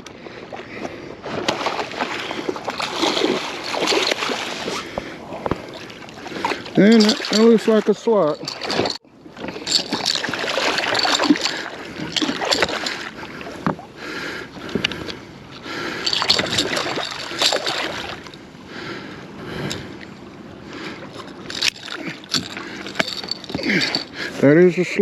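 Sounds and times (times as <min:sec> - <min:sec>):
water sloshing around a kayak: 0:00.0 - 0:24.6.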